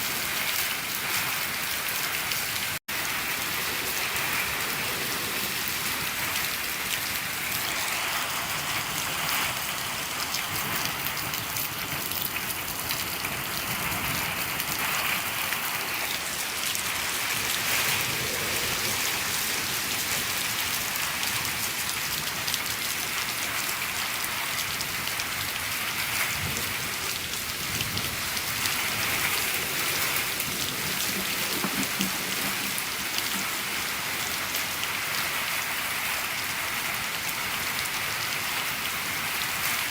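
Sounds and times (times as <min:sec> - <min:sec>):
rain on a shed: 0:00.0 - 0:39.9.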